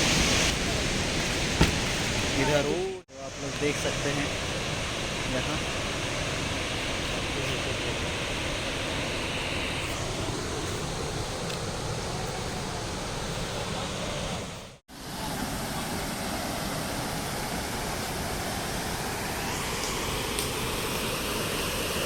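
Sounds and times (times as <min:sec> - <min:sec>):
waterfall roaring over rock: 0:00.0 - 0:22.0.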